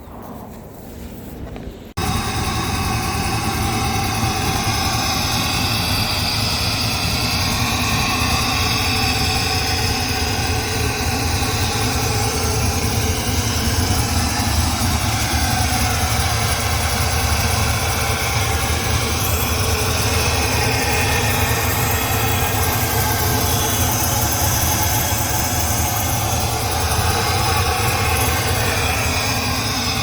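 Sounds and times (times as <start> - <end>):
car engine idling: 2.0 - 30.0.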